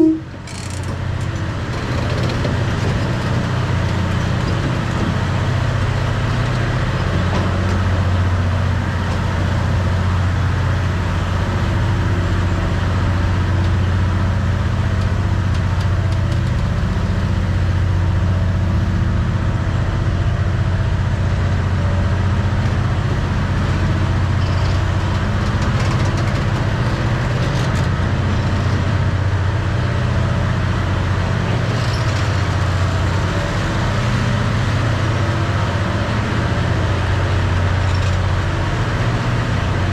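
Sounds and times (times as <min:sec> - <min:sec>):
continuous train rumble: 0:00.0 - 0:39.9
train engine drone: 0:00.0 - 0:39.9.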